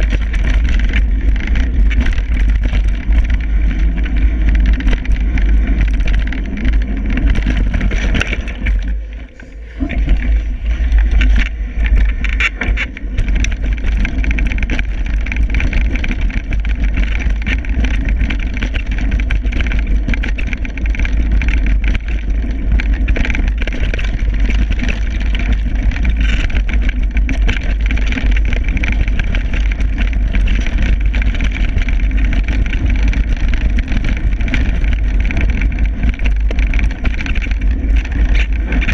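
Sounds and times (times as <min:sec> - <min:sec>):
bike clicks and rattles: 0:00.0 - 0:38.9.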